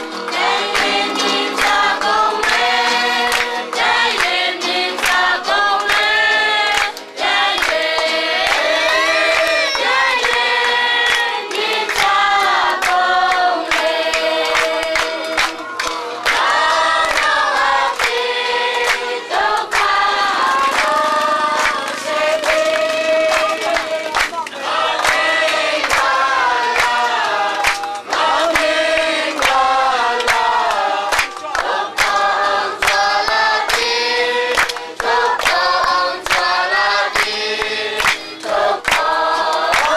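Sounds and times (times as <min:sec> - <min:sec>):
congregation singing a hymn: 0:00.0 - 0:39.9
hands clapping: 0:00.0 - 0:39.9.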